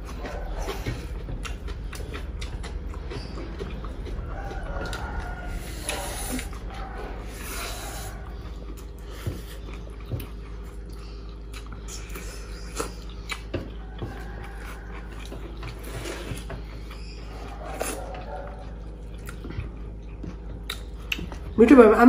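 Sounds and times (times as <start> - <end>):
chewing and mouth smacks: 0.0 - 21.6
low hum: 0.0 - 22.0.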